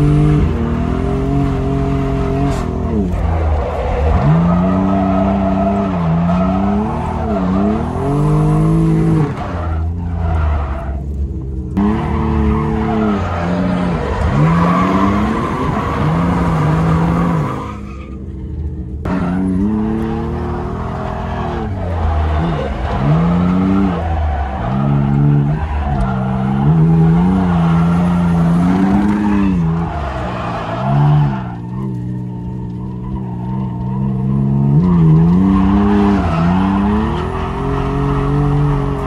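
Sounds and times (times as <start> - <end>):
car engine revving: 0.0 - 39.0
tyres squealing and skidding: 1.4 - 18.4, 19.1 - 39.0.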